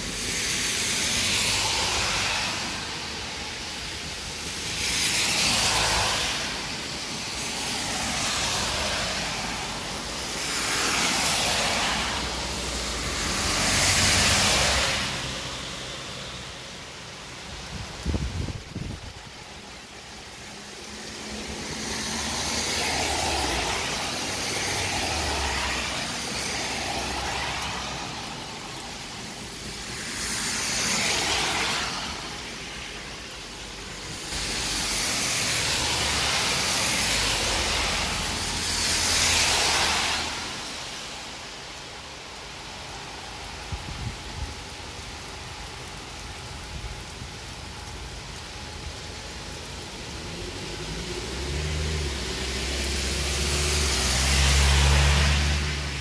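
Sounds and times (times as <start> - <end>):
rain on wet road: 0.0 - 56.0
vehicles passing on wet road: 0.0 - 56.0.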